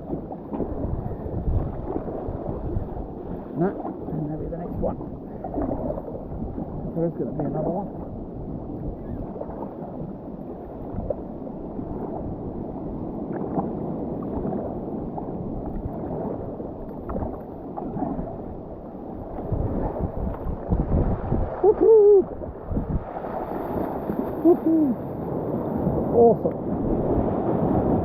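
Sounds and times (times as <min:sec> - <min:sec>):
sea water sloshing and splashing: 0:00.0 - 0:28.0
wind on microphone: 0:00.0 - 0:28.0.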